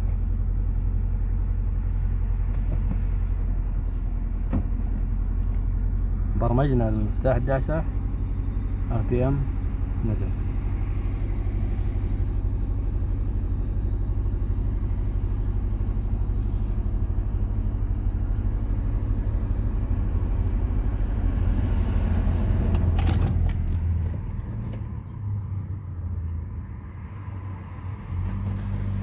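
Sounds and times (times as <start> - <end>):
car engine idling: 0.0 - 25.2.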